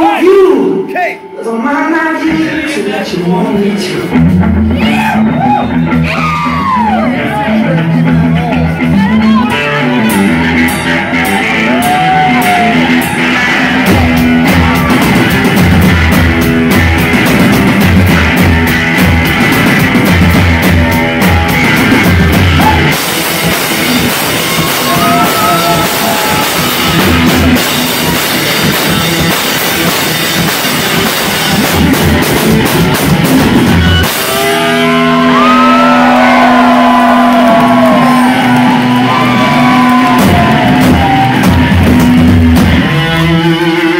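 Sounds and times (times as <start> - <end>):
rock band playing loud: 0.0 - 43.9.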